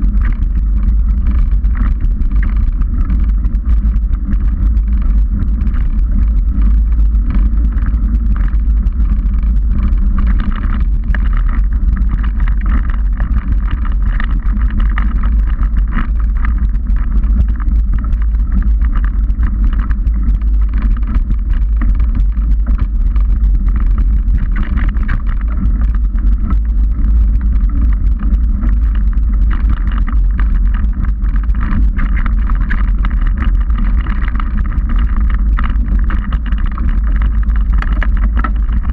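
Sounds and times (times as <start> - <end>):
bike rattling over bumps: 0.0 - 38.9
wind buffeting microphone: 0.0 - 38.9.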